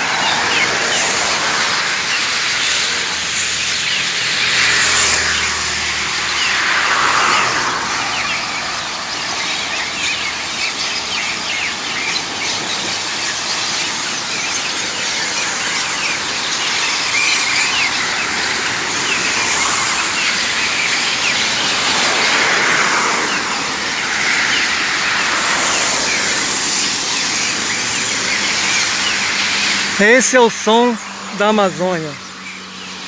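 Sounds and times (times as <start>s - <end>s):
chorus of birds chirping: 0.0s - 33.0s
road traffic hiss: 0.0s - 33.0s.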